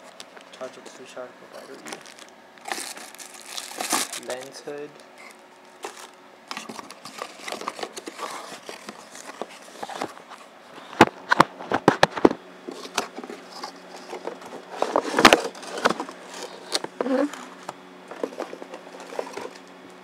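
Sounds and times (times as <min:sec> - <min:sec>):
rustling while unpacking: 0:01.5 - 0:12.0, 0:12.7 - 0:19.8.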